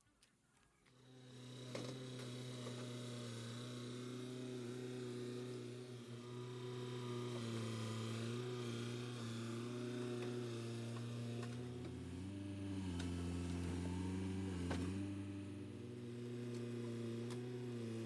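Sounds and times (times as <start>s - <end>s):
excavator diesel engine droning: 1.0s - 18.0s.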